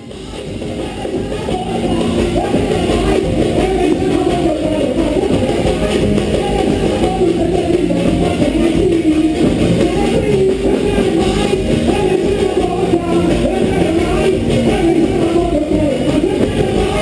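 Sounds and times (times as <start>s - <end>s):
guitar: 0.0s - 17.0s
live band playing: 0.0s - 17.0s
person singing: 0.0s - 17.0s.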